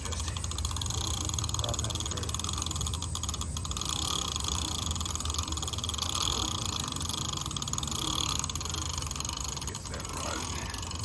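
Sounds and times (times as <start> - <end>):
bicycle wheel whirring: 0.0 - 11.0
chain ticking over cassette: 0.0 - 11.0.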